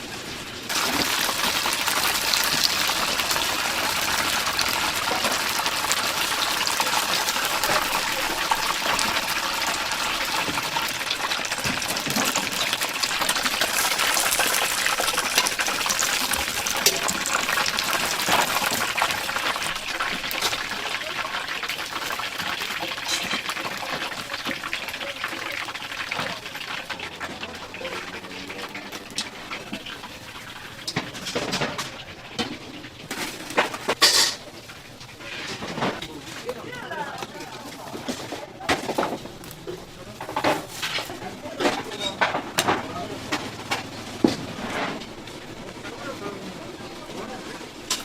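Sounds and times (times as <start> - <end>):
chicken deep-frying in oil: 0.0 - 48.0.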